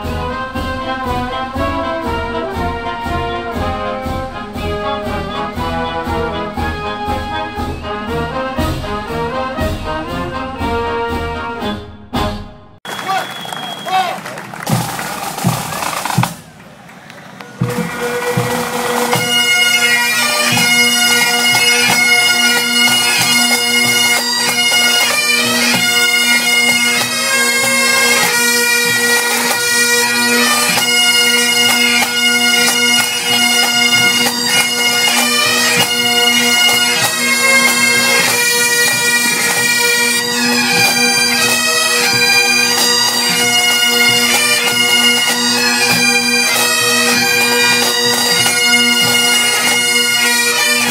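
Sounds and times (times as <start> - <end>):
bagpipes playing a melody: 0.0 - 10.8, 17.5 - 50.9.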